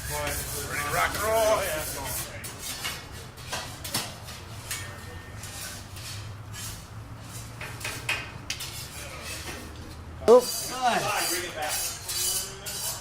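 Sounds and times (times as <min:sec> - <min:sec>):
cooking trays and utensils clattering: 0:00.0 - 0:13.0.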